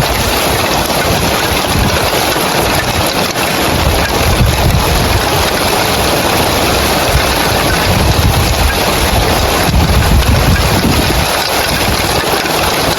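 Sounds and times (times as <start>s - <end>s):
heavy rain on roof tiles: 0.0s - 12.9s.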